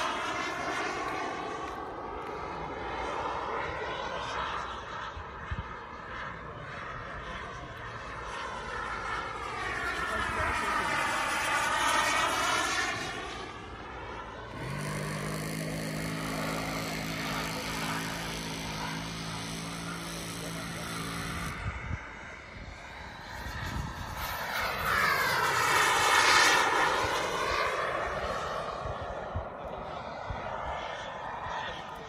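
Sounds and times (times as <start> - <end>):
model jet whine passing: 0.0 - 32.0
steady low hum: 0.0 - 32.0.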